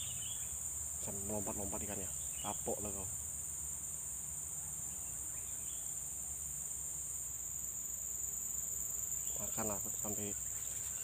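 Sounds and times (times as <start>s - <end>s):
shrill insect chorus: 0.0s - 11.0s.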